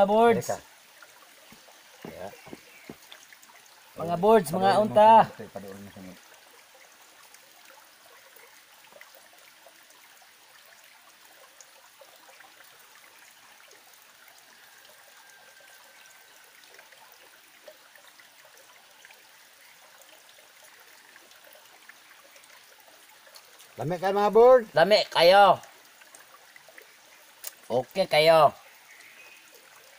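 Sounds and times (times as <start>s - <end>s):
small stream trickling: 0.0s - 29.9s.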